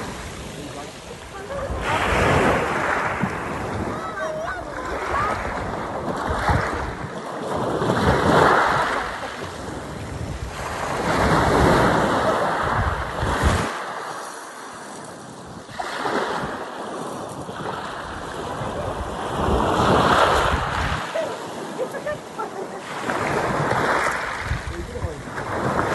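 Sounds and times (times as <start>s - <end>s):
waves breaking on sandy beach: 0.0s - 25.9s
wind rumbling on microphone: 0.0s - 25.9s.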